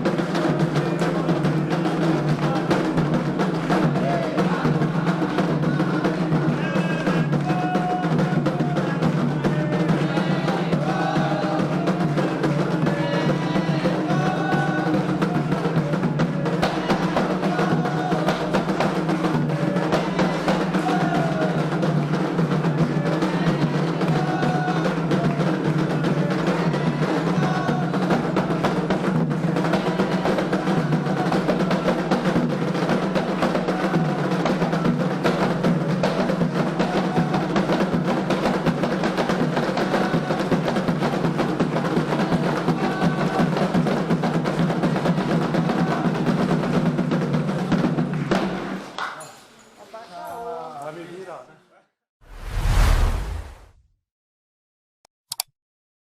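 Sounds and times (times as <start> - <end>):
faint singing voices: 0.0 - 48.0.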